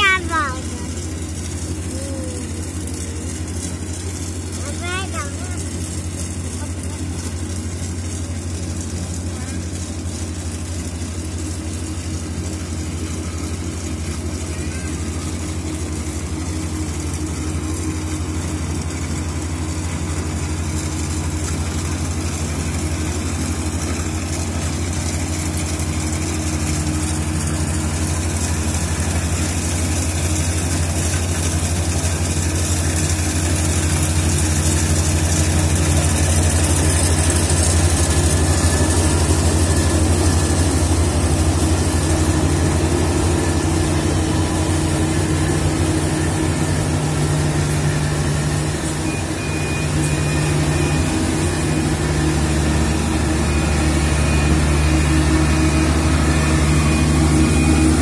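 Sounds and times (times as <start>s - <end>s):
combine harvester diesel engine: 0.0s - 58.0s.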